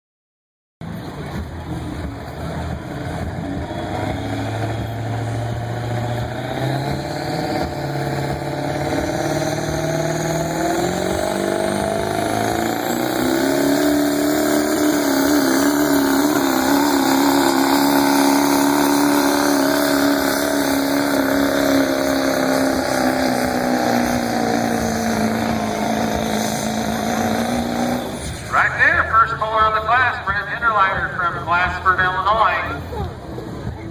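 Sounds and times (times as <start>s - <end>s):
truck engine running hard: 0.8s - 33.9s.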